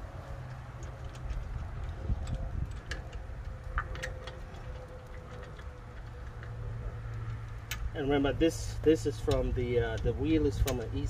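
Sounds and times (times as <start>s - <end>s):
low rumble: 0.0s - 11.0s
wheel bolts clicking and tapping: 0.0s - 11.0s.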